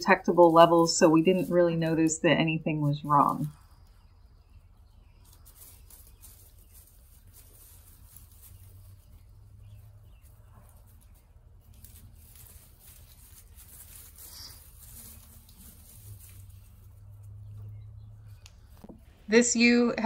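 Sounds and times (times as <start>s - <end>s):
sheep rustling in straw: 0.0s - 19.8s.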